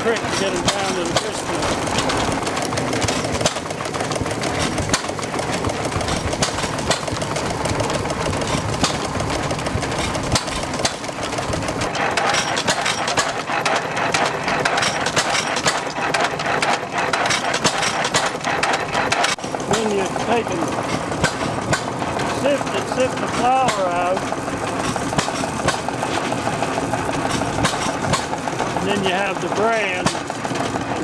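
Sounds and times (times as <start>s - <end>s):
engine driving grain mill: 0.0s - 31.0s.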